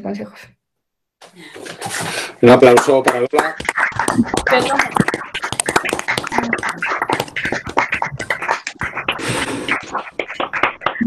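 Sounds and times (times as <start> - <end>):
people clapping over laptop microphones: 1.8 - 11.0.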